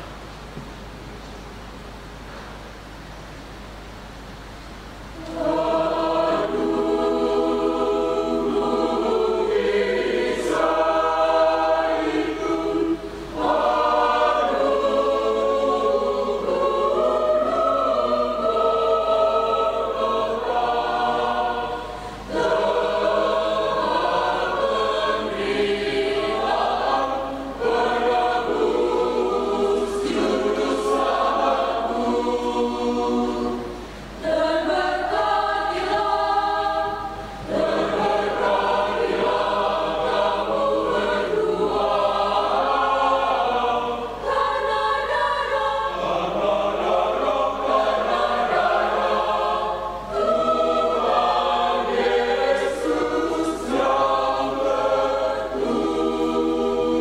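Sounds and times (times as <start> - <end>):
mixed choir singing a hymn: 5.2 - 57.0.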